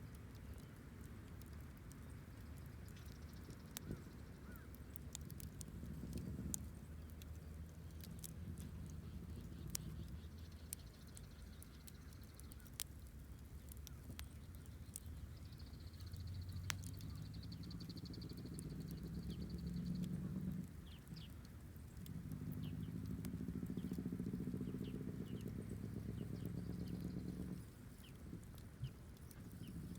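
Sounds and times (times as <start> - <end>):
campfire crackling and popping: 0.0 - 29.9
fire low rumble: 0.0 - 29.9.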